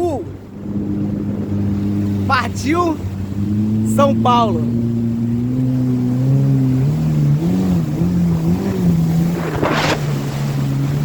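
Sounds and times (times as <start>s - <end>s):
jet ski engine running: 0.0s - 11.0s
rushing water and wind: 0.0s - 11.0s.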